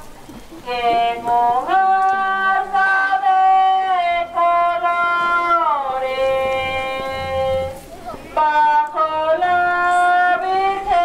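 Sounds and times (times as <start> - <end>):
high female voice singing: 0.6 - 7.8, 8.4 - 11.0.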